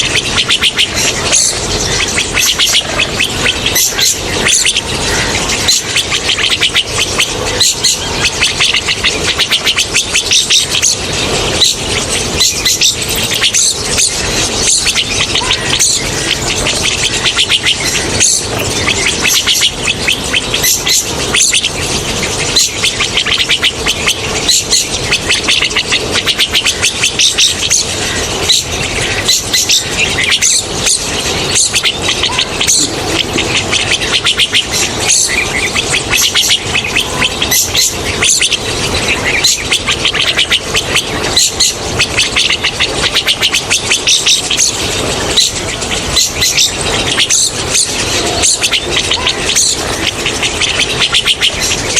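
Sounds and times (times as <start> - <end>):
starlings chattering: 0.0 - 51.9.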